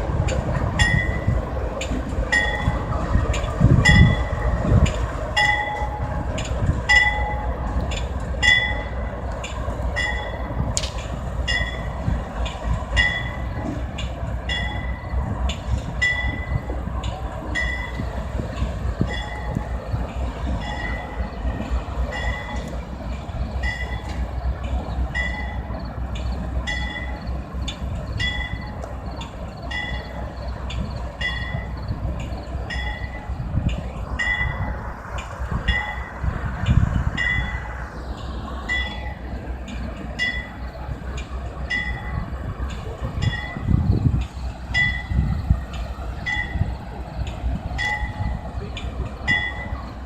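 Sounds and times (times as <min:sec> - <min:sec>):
train rumbling: 0:00.0 - 0:50.0.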